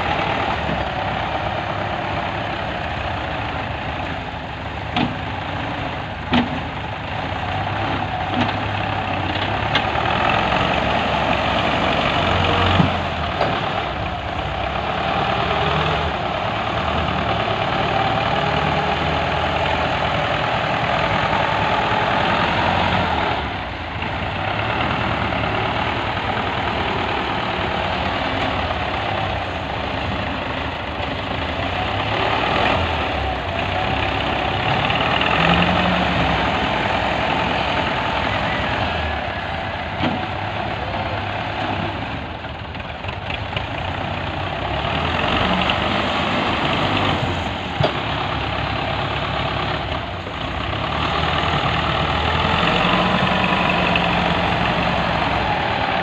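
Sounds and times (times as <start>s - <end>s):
loader bucket scooping earth: 0.0s - 56.0s
tractor diesel engine running: 0.0s - 56.0s.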